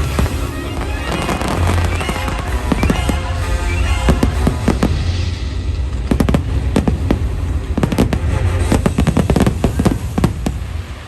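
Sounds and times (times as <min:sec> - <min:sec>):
fireworks bangs and crackles: 0:00.0 - 0:11.0
soundtrack music: 0:00.0 - 0:11.0.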